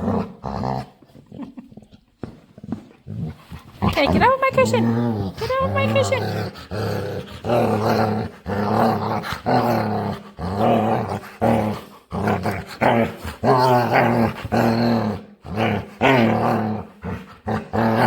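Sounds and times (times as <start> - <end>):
dog growling playfully: 0.0 - 18.0.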